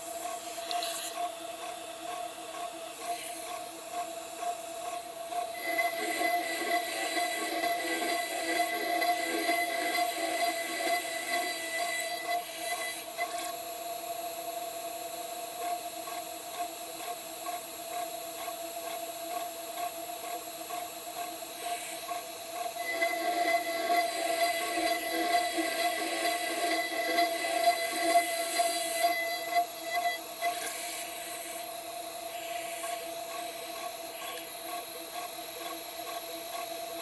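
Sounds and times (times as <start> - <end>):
router spindle cutting metal: 2.0 - 13.6, 18.4 - 37.0.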